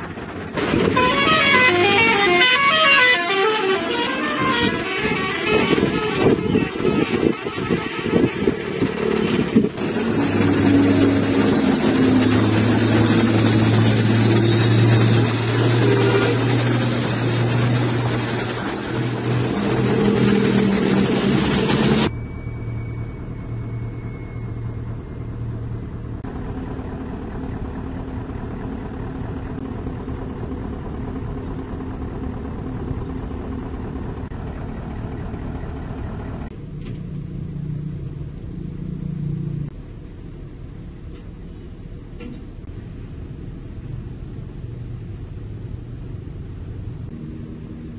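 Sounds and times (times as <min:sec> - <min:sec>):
truck engine passing: 0:00.0 - 0:41.4, 0:42.5 - 0:47.9
steady engine hum: 0:00.0 - 0:47.9.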